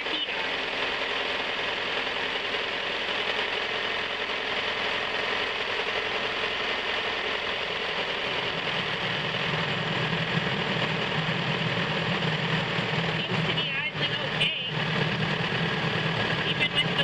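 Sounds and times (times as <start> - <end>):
car engine idling: 0.0 - 17.0
deeper hum: 0.0 - 17.0.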